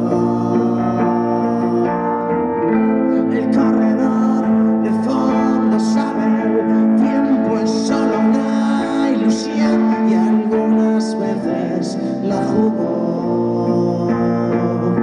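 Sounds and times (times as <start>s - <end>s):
keyboard playing: 0.0s - 15.0s.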